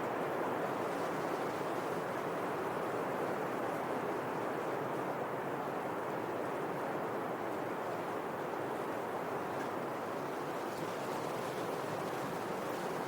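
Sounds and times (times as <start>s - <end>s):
wind rustling palm fronds: 0.0s - 13.0s.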